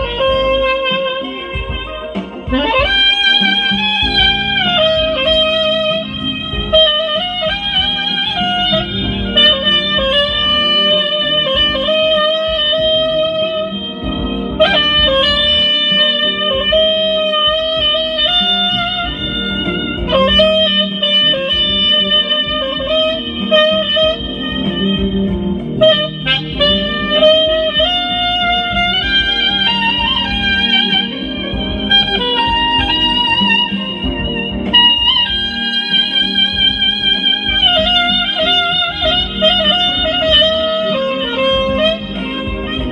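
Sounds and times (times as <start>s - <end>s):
backing music: 0.0s - 42.9s
soprano saxophone melody: 0.0s - 42.9s.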